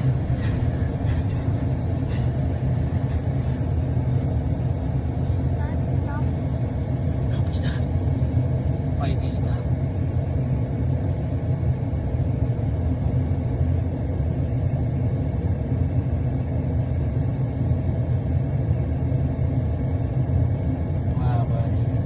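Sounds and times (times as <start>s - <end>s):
diesel locomotive idling: 0.0s - 22.0s.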